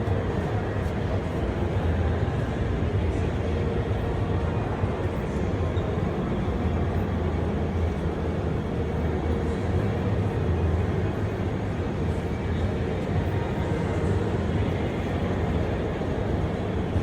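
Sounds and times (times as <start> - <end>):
low rumble of hall ambience: 0.0 - 17.0.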